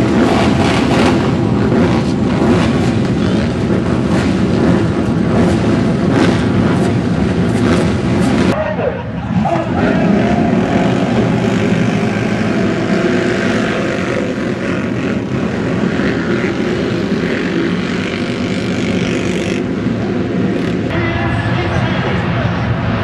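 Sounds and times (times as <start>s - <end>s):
racing quad engines revving: 0.0s - 21.0s.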